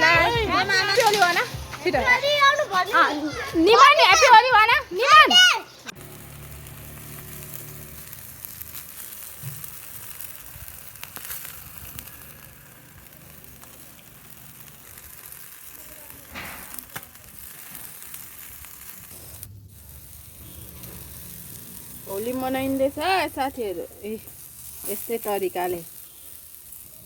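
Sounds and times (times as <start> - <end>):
chicken sizzling on a grill: 0.0 - 27.0.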